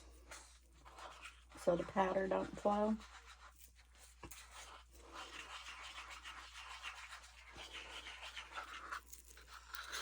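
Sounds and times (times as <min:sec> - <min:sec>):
stir stick scraping in a cup: 0:00.0 - 0:10.0.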